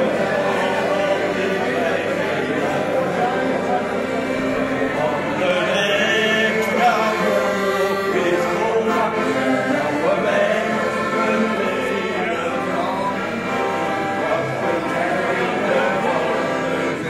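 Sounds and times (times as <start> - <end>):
accordion: 0.0 - 17.0
men singing together: 0.0 - 17.0.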